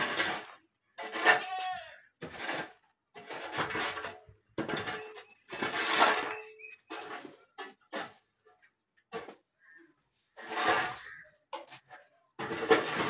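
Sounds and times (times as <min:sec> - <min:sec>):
squeaky scrape: 0:00.0 - 0:08.3, 0:09.6 - 0:13.0.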